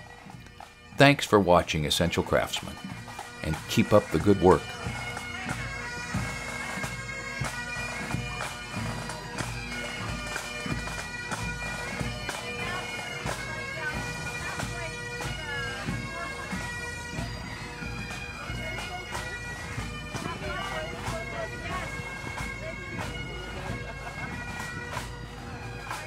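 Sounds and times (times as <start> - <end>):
bagpipes playing over drone: 0.0 - 26.0.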